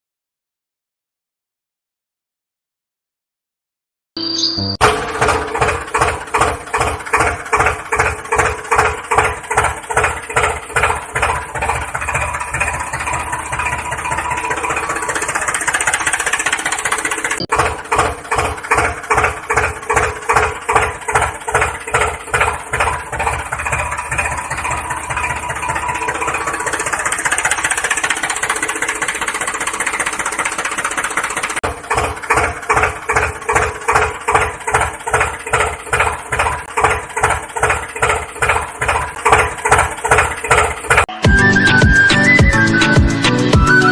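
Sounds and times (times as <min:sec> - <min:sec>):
small engine chugging: 0:04.8 - 0:43.9.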